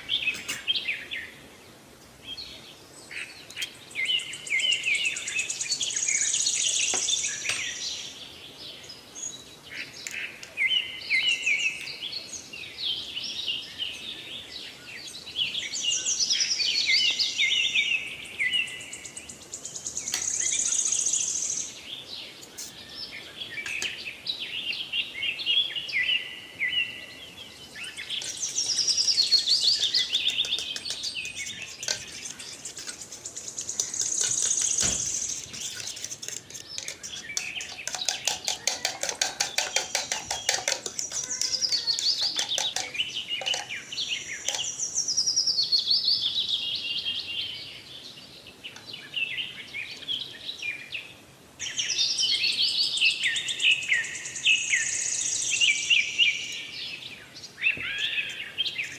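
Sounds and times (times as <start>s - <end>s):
birds chirping and twittering: 0.0s - 58.9s.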